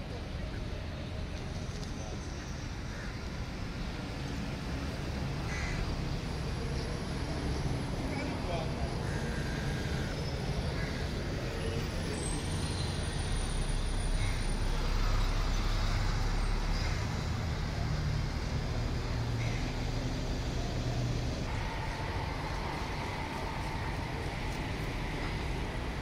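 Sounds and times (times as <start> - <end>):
bus engine rumbling: 0.0 - 26.0
street traffic: 0.0 - 26.0.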